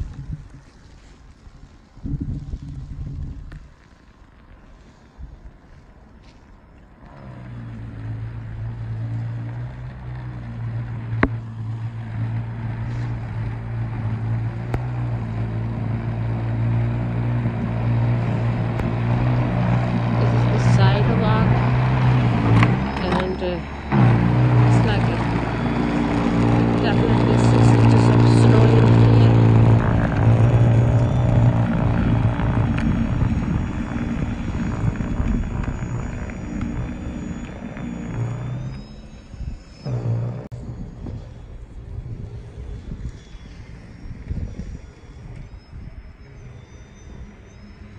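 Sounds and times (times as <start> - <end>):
wind noise on microphone: 0.0 - 3.9, 11.0 - 47.9
snow blower electric hum: 7.0 - 45.4.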